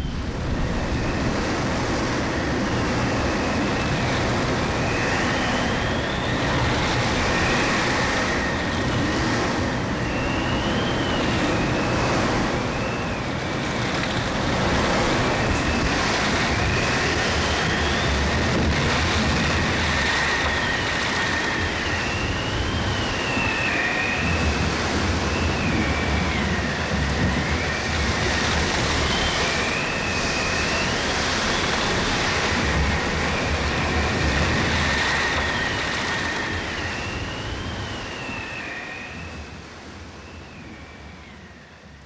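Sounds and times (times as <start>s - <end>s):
high wind whistle: 0.0s - 42.0s
storm wind blowing: 0.0s - 42.0s.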